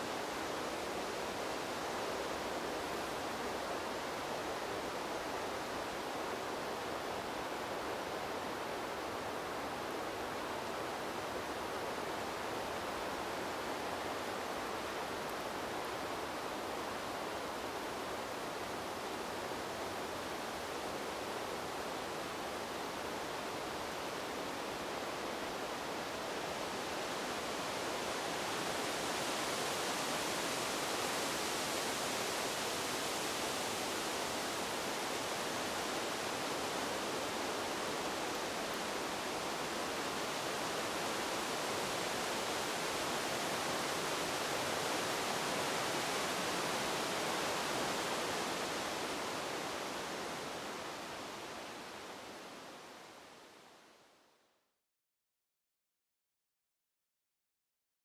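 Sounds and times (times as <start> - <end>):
wind rustling tree leaves: 0.0 - 54.3.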